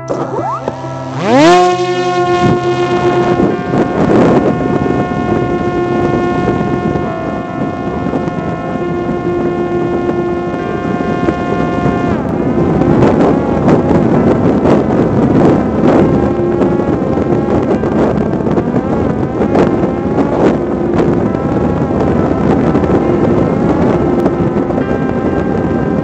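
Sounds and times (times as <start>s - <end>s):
drone propeller motor whining: 0.0s - 26.0s
wind rush on microphone: 0.0s - 26.0s.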